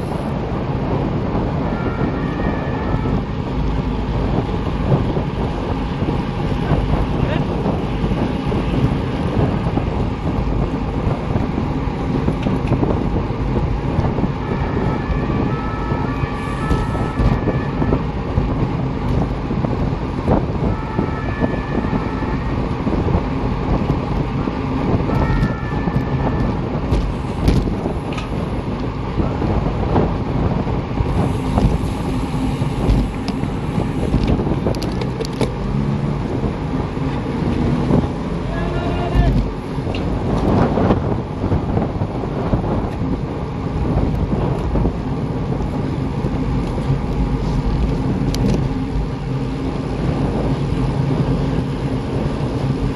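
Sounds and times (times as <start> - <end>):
wind rumble on microphone: 0.0 - 52.9.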